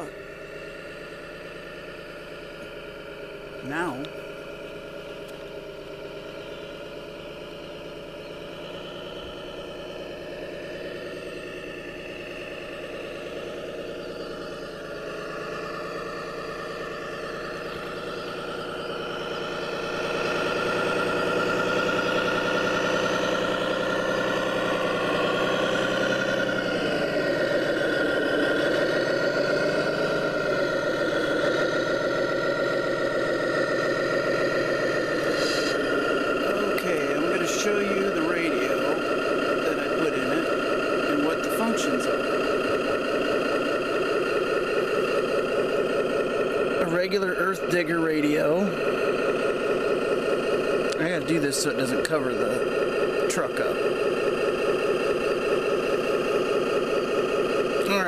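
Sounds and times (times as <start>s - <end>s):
high whine: 0.0s - 58.0s
toy truck motor humming: 0.0s - 58.0s.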